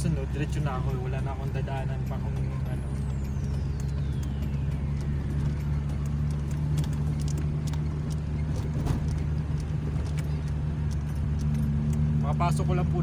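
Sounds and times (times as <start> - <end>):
engine and road hum: 0.0 - 13.0
light clicks and rattles: 0.4 - 13.0.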